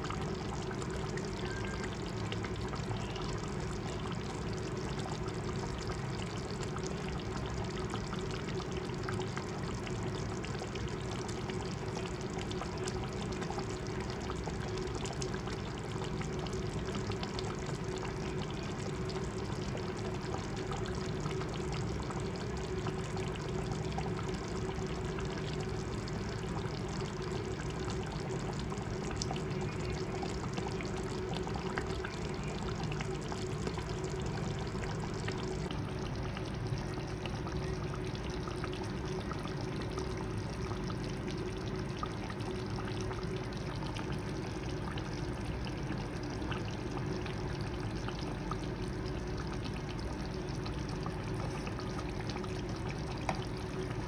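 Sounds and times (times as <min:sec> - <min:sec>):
curry bubbling in a pot: 0:00.0 - 0:54.0.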